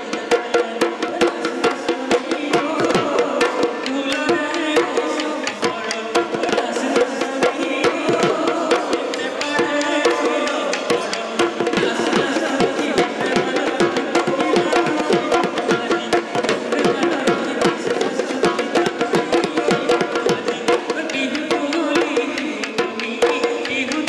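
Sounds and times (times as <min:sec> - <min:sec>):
fast drum beats: 0:00.0 - 0:24.0.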